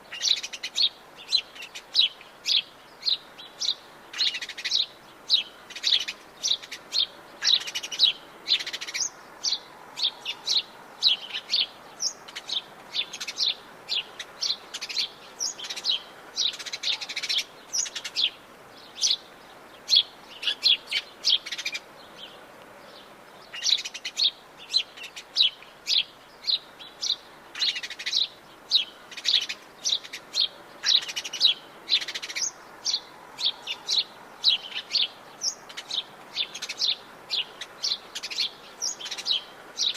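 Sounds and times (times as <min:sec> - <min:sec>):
forest birds chirping: 0:00.0 - 0:39.9.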